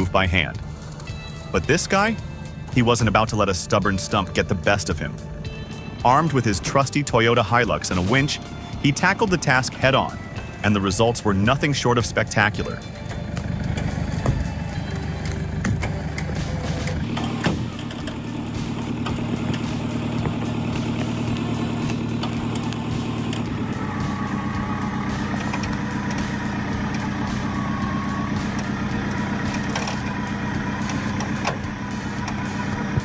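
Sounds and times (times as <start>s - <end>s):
truck engine running under load: 0.0s - 33.0s.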